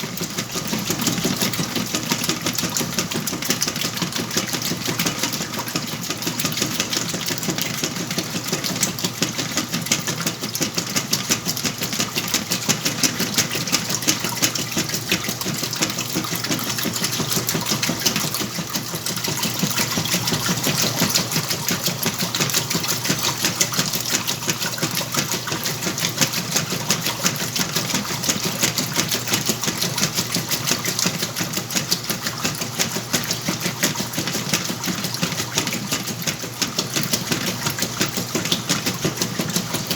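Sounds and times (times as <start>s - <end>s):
washing machine whirring and rattling: 0.0s - 39.9s.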